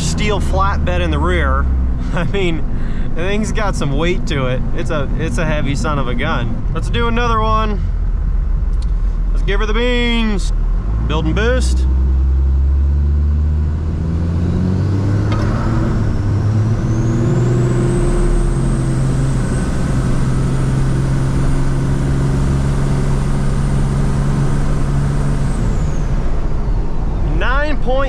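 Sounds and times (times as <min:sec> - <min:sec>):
diesel engine at full throttle: 0:00.0 - 0:28.0.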